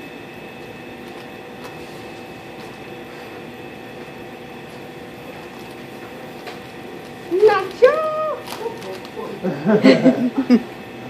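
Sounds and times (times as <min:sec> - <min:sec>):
appliances and ventilation humming: 0:00.0 - 0:11.0.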